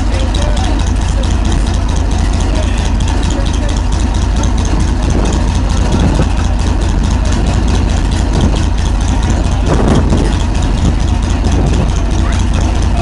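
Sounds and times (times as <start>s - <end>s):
tank engine deep rumble: 0.0s - 13.0s.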